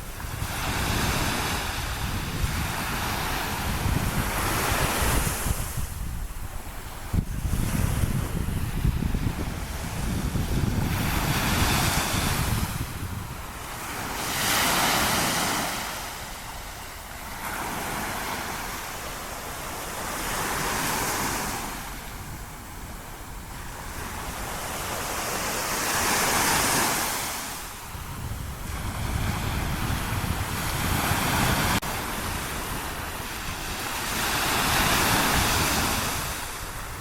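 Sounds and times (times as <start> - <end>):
small waves breaking on beach: 0.0 - 37.0.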